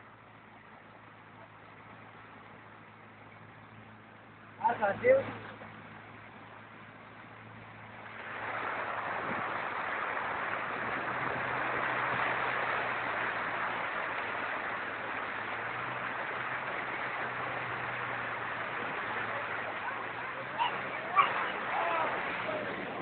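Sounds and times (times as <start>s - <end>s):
floodwater rushing: 0.0s - 23.0s
vehicle engine hum: 0.0s - 23.0s.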